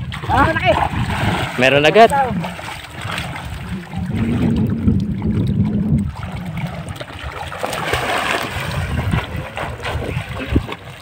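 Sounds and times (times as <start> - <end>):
low rumble: 0.0 - 10.8
river water splashing and flowing: 0.0 - 11.0.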